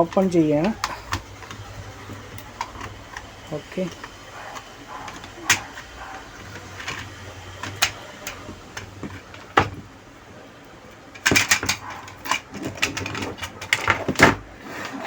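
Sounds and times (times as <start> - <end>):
plastic panel clicks and knocks: 0.0 - 9.9, 11.1 - 14.5.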